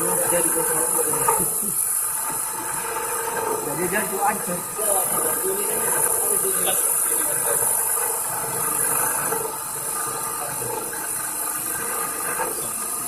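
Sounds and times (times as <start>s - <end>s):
lathe running with hiss: 0.0s - 13.0s.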